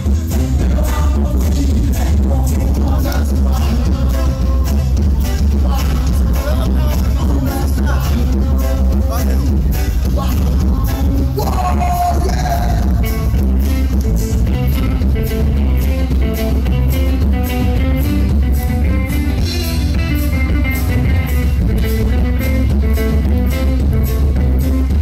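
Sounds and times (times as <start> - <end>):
acoustic guitar: 0.0 - 25.0
bass guitar: 0.0 - 25.0
drum kit with cymbals: 0.0 - 25.0
electric guitar: 0.0 - 25.0.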